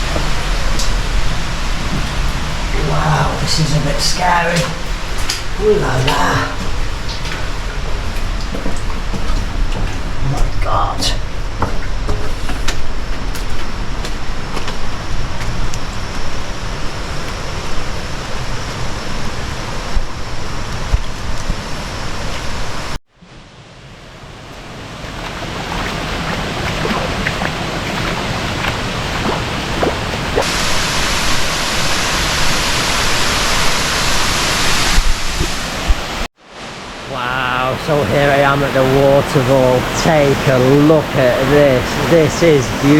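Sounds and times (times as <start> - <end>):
river and waterfall rushing: 0.0 - 42.9.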